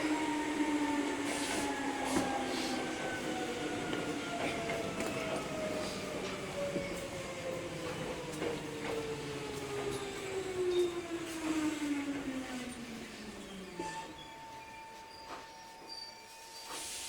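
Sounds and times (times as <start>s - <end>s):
electric train motor whine: 0.0s - 16.0s
low train rumble: 0.0s - 16.8s.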